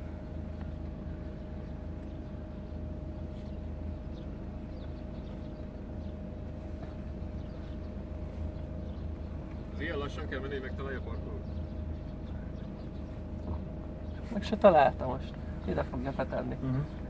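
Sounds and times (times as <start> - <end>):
car low rumble inside cabin: 0.0 - 17.0
faint steady hum: 0.0 - 17.0.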